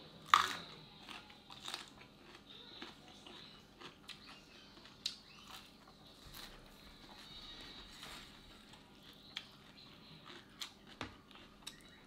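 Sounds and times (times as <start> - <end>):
person crunching vegetable: 0.2 - 12.0.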